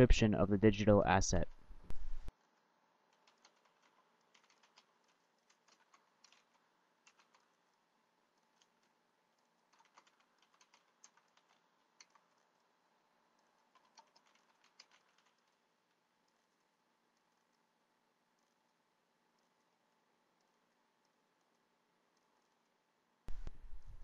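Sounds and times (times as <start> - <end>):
faint keyboard typing: 3.0 - 24.0.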